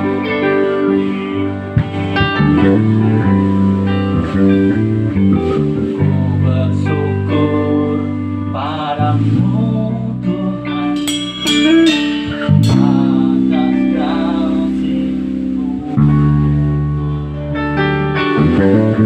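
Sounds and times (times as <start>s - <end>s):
bass guitar: 0.0s - 19.0s
electric guitar lead melody: 0.0s - 19.0s
keyboard chords: 0.0s - 19.0s.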